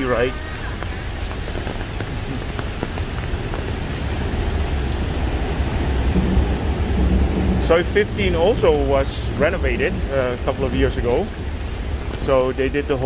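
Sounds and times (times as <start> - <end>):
rain falling on pavement: 0.0 - 13.0
low rumble: 0.4 - 12.6.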